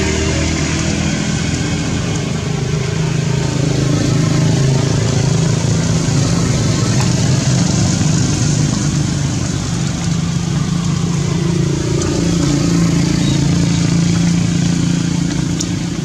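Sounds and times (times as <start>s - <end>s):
rushing noise: 0.0s - 16.0s
vehicle engine running: 0.0s - 16.0s.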